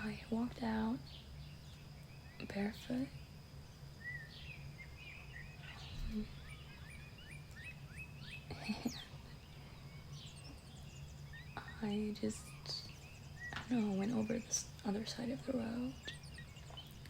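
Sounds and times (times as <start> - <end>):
songbirds singing: 0.0 - 17.0
steady low hum: 0.0 - 17.0.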